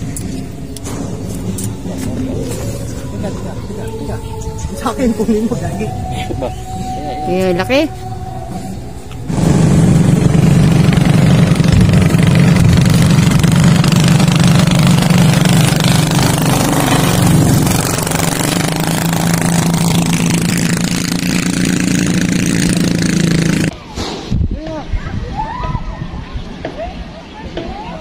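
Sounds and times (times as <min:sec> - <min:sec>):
motorboat engines droning: 0:00.0 - 0:23.7.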